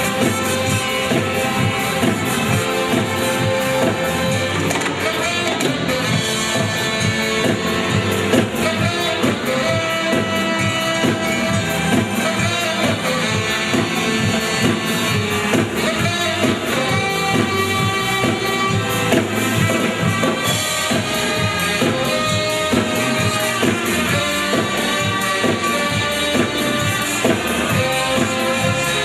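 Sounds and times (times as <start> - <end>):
upbeat instrumental music: 0.0 - 29.0.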